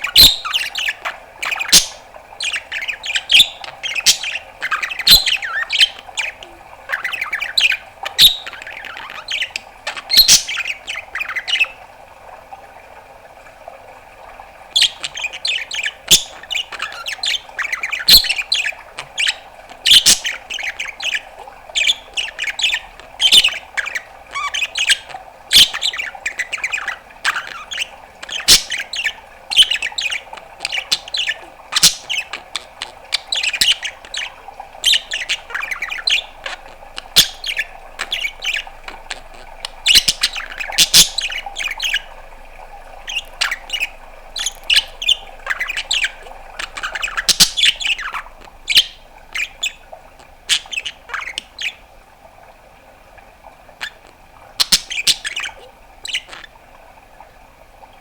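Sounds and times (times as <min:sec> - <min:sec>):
budgerigar chattering: 0:00.0 - 0:11.7, 0:14.8 - 0:21.2, 0:21.8 - 0:42.1, 0:43.1 - 0:49.8, 0:50.5 - 0:51.8, 0:54.6 - 0:56.5.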